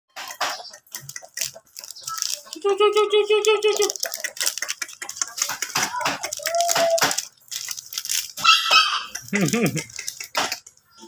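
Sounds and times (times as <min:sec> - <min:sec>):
claws clicking on tiled floor: 0:00.2 - 0:11.0.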